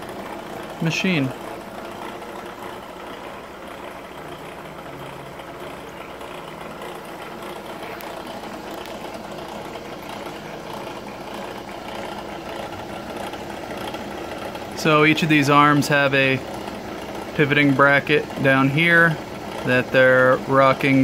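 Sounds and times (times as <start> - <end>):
machine running with fast rattle: 0.0 - 21.0.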